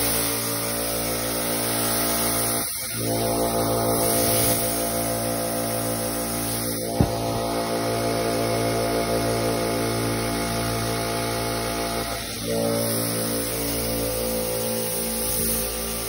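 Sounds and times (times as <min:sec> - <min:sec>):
air compressor running: 0:00.0 - 0:16.0.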